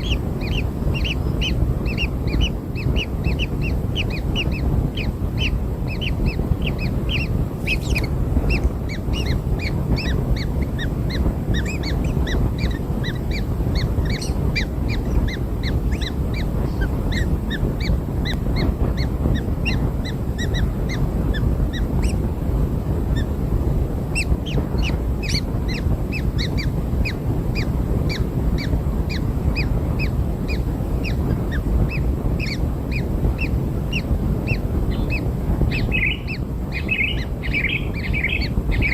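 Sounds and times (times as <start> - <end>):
low background rumble: 0.0 - 38.9
nestlings begging with rasping chirps: 0.0 - 38.9.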